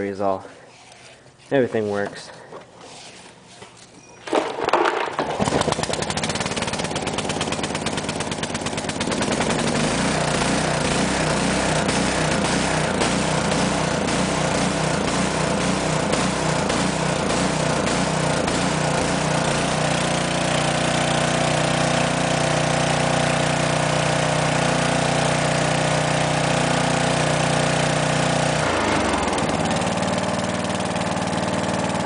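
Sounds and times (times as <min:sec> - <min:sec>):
lawn tractor engine running: 0:04.2 - 0:32.0.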